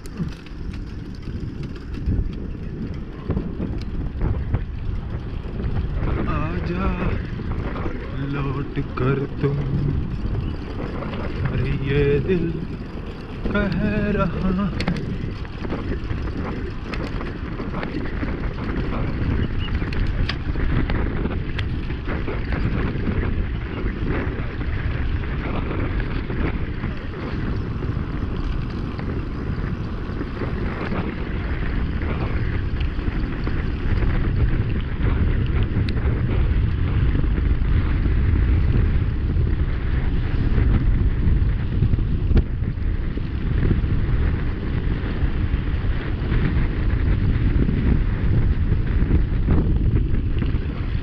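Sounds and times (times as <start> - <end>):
tyres rumbling on tarmac: 0.0 - 51.0
wind buffeting microphone: 0.0 - 51.0.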